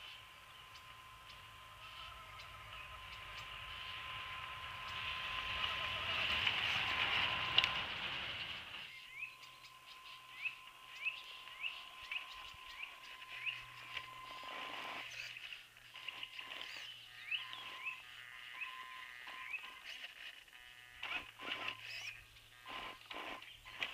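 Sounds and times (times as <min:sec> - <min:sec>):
bird chirping: 0:00.0 - 0:07.7, 0:08.4 - 0:20.0, 0:21.6 - 0:23.8
electric motor noise: 0:00.0 - 0:23.9.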